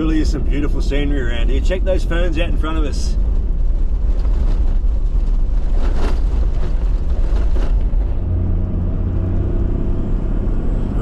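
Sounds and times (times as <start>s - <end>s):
engine rumble inside a vehicle: 0.0s - 11.0s
road noise: 0.0s - 11.0s.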